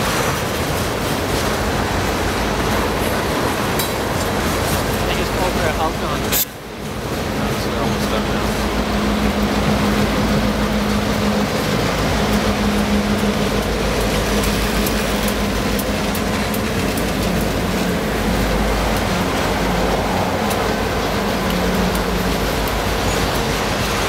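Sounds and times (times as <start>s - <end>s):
diesel locomotive engine rumbling: 0.0s - 24.0s
wheels clicking on rails: 0.0s - 24.0s.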